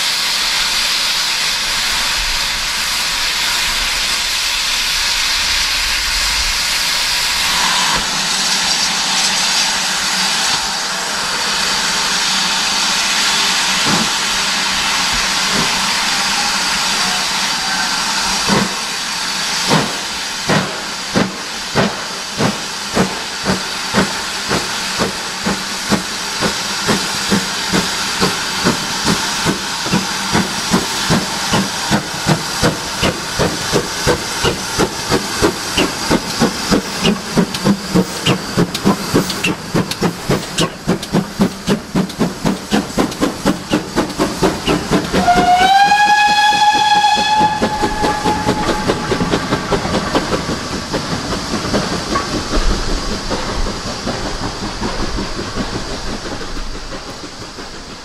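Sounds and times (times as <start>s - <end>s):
steam engine chimney exhaust beats: 0.0s - 58.0s
steam hissing: 0.0s - 58.0s.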